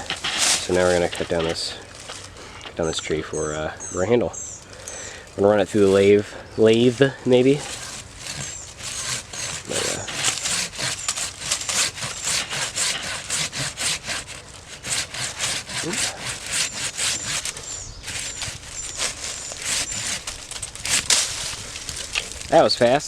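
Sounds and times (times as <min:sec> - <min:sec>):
hand saw cutting wood: 0:00.0 - 0:02.4, 0:05.7 - 0:22.5.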